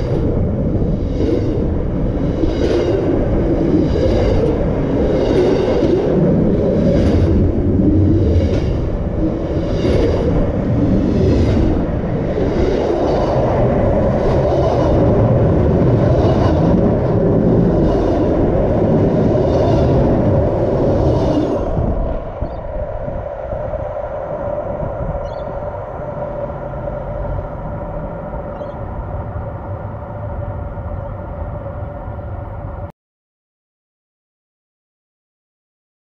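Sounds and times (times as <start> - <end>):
steady hum: 0.0 - 32.9
train wagons rumbling: 0.0 - 32.9.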